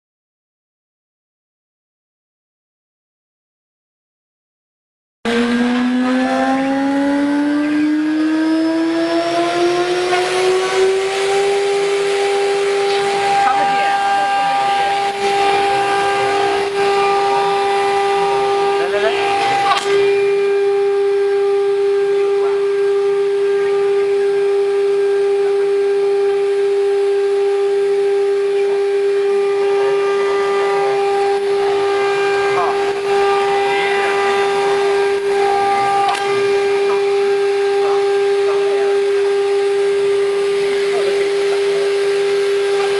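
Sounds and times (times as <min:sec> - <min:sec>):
router spindle motor whining: 0:05.3 - 0:42.9.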